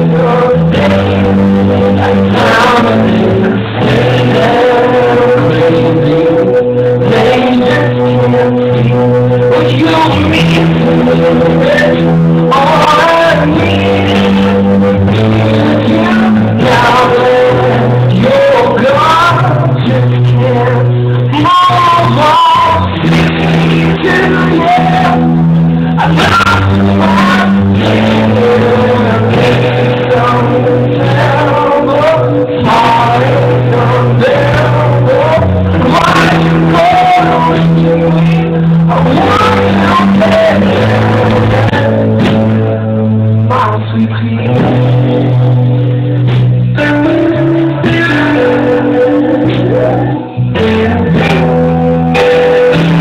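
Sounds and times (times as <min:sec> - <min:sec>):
bass guitar: 0:00.0 - 0:53.0
drums: 0:00.0 - 0:53.0
electric guitar: 0:00.0 - 0:53.0
man singing: 0:00.0 - 0:53.0.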